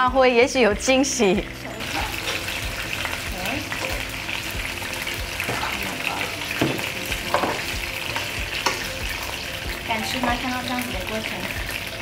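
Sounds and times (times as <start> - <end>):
food sizzling in hot oil: 0.5 - 12.0.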